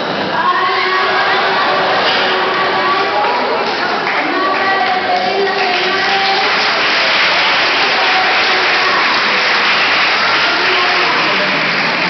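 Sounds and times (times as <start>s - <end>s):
audience applauding: 0.9s - 12.0s.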